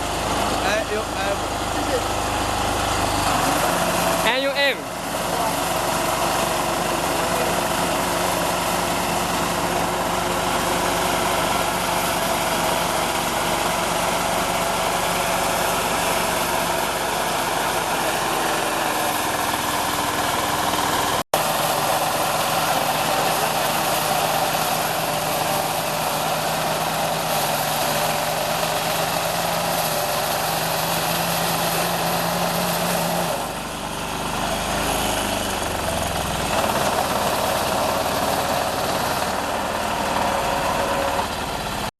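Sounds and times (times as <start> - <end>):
combine harvester engine droning: 0.0 - 41.9.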